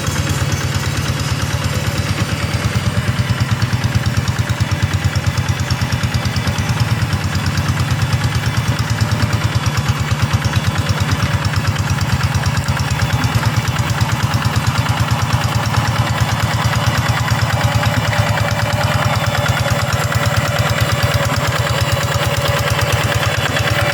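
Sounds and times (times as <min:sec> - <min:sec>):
diesel tractor engine chugging: 0:00.0 - 0:23.9.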